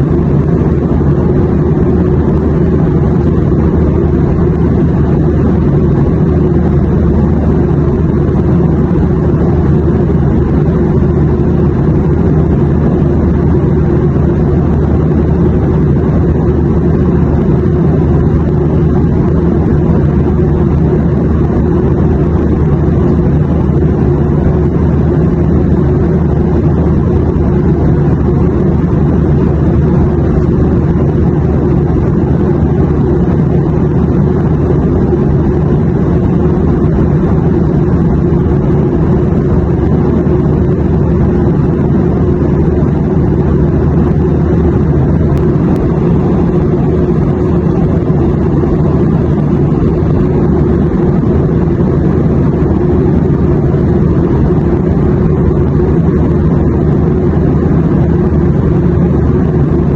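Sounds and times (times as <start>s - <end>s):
airplane drone: 0.0s - 59.9s.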